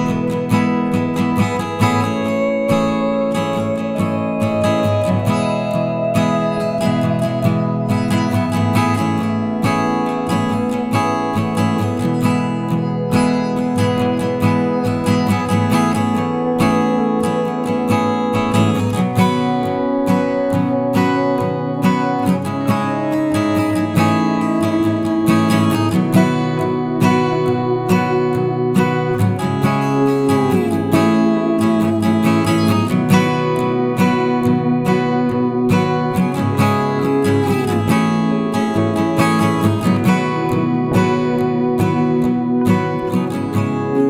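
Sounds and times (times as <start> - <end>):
acoustic guitar music: 0.0 - 44.0.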